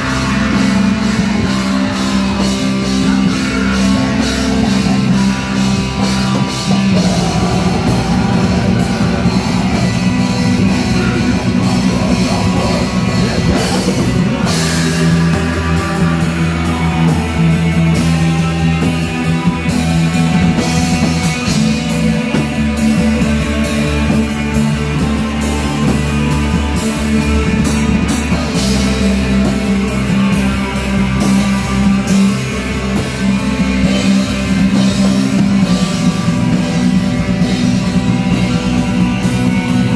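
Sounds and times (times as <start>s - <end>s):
distorted electric guitars: 0.0s - 39.9s
drum kit: 0.0s - 39.9s.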